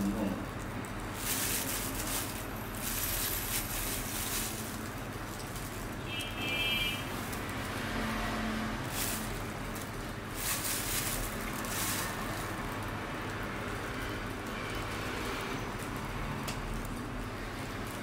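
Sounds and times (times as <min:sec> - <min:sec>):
steady background hum: 0:00.0 - 0:14.6.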